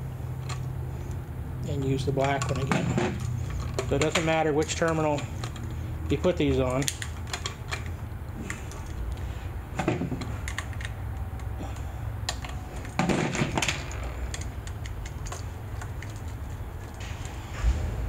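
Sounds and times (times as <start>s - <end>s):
low steady hum: 0.0s - 18.0s
hand tools clicking and rattling: 0.4s - 17.4s.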